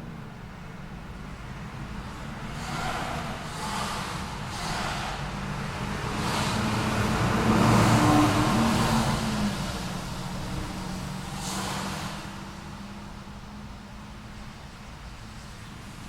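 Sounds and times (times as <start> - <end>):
traffic rumble: 0.0 - 16.0
car passing close: 0.5 - 16.0.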